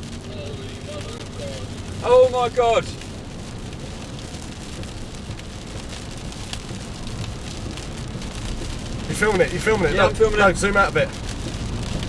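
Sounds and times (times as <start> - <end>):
rain hissing on a car: 0.0 - 12.0
road and engine rumble: 0.0 - 12.0.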